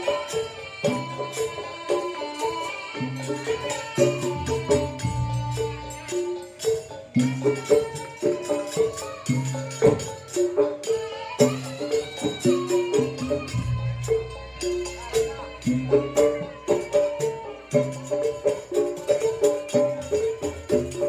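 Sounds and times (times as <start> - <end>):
drum strokes: 0.0 - 21.0
percussion melody: 0.0 - 21.0.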